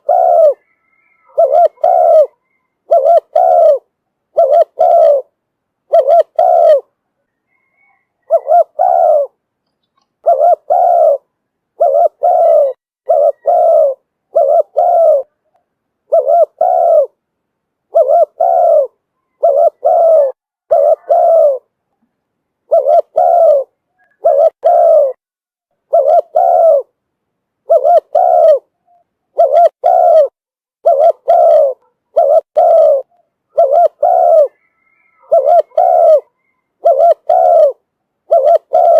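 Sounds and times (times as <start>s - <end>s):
dove cooing: 0.0s - 9.4s, 10.2s - 15.5s, 16.1s - 17.2s, 17.9s - 21.7s, 22.6s - 25.2s, 25.8s - 27.0s, 27.6s - 38.9s.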